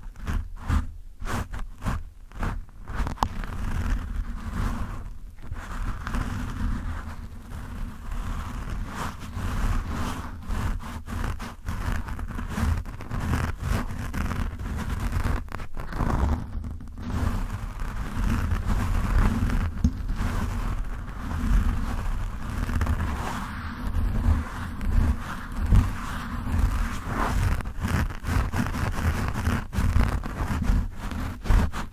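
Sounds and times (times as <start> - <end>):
fingers scratching microphone windscreen: 0.0 - 31.9.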